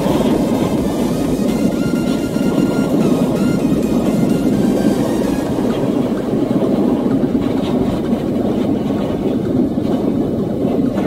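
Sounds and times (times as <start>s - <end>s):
gas burner flame rushing: 0.0s - 11.0s.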